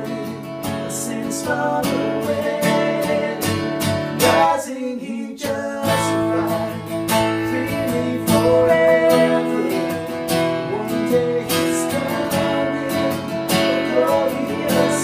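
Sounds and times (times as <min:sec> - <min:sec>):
acoustic guitar strumming: 0:00.0 - 0:04.7, 0:05.4 - 0:15.0
person singing: 0:00.0 - 0:15.0.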